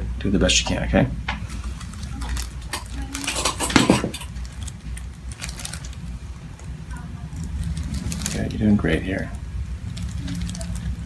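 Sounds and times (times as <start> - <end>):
spine joints cracking: 0.6 - 11.0.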